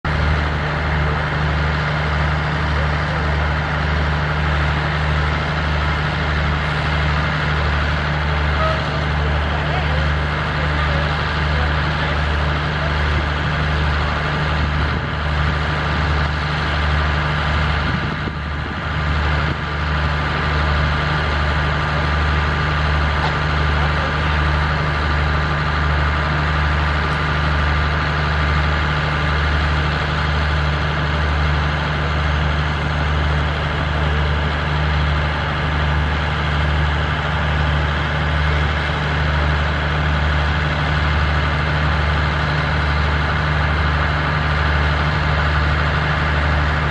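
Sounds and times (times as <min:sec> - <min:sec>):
locomotive diesel engine throbbing: 0:00.0 - 0:46.9.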